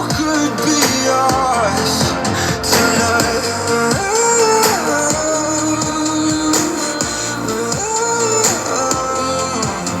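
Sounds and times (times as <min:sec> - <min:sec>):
instrumental pop music through speaker: 0:00.0 - 0:10.0.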